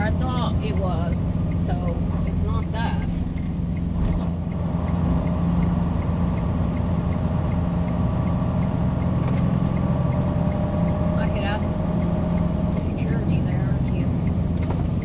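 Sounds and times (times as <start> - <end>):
light regular ticking: 0.0 - 15.0
truck engine and road drone: 0.0 - 15.0.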